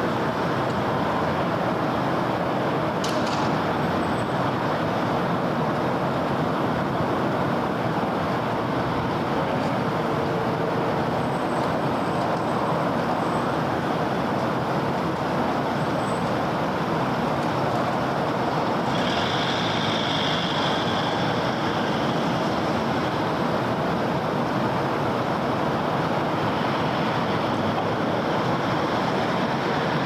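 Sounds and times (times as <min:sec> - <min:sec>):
passing road traffic: 0:00.0 - 0:30.0.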